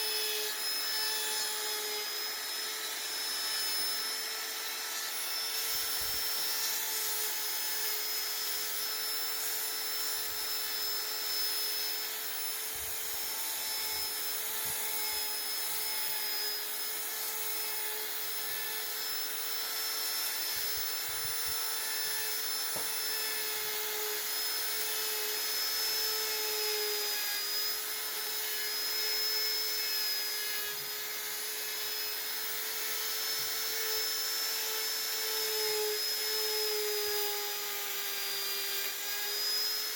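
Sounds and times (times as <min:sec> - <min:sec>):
rotary tool grinding wood: 0:00.0 - 0:39.9.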